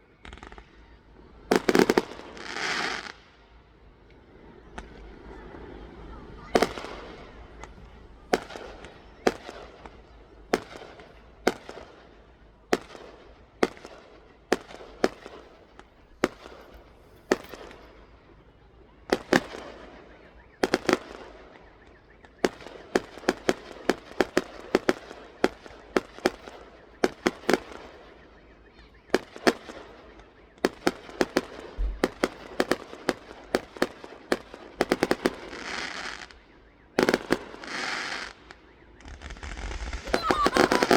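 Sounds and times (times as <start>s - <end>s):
fireworks exploding: 0.2s - 3.5s, 4.3s - 18.2s, 19.0s - 28.2s, 29.1s - 40.9s.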